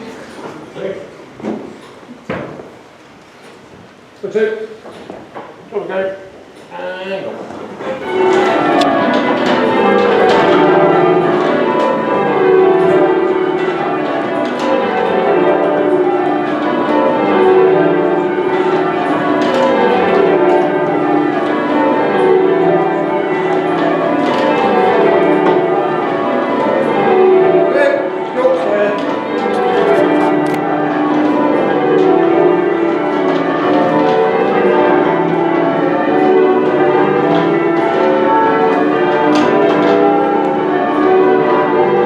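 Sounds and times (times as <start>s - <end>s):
church bells change ringing: 5.9s - 42.0s.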